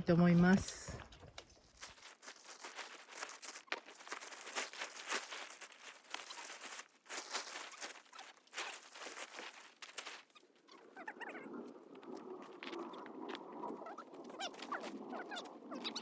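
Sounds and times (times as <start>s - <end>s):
tent fabric rustling and clicking: 0.7s - 16.0s.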